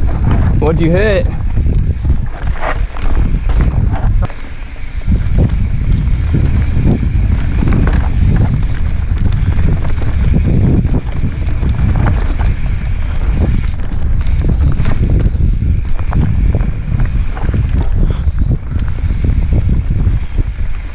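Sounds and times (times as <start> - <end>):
wind rumble on microphone: 0.0 - 20.9.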